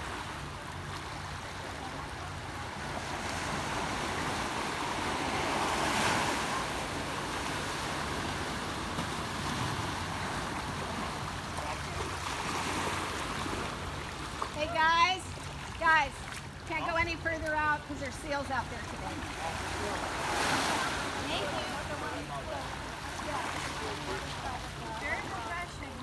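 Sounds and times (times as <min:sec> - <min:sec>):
waves washing over rocks: 0:00.0 - 0:16.6, 0:18.6 - 0:26.0.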